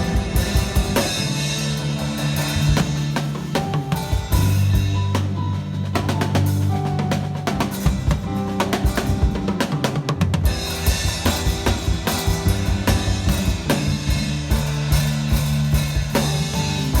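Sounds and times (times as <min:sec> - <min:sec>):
bass drum and snare strikes: 0:00.0 - 0:17.0
live band playing: 0:00.0 - 0:17.0.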